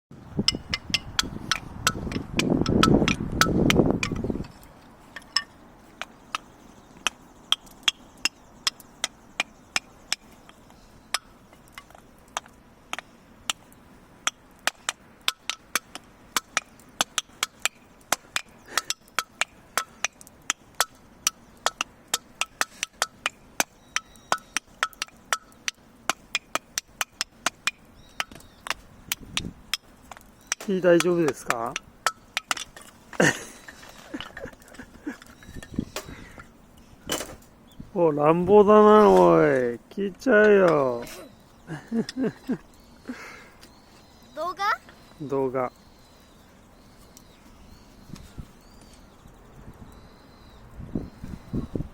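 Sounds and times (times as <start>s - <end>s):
firewood knocking: 0.4s - 37.6s, 38.4s - 43.4s.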